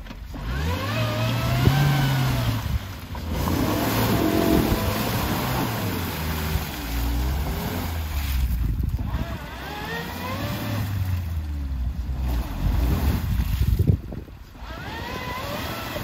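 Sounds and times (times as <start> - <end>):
car engine revving under load: 0.0 - 13.6, 14.4 - 16.0
tyres churning through mud: 0.0 - 16.0.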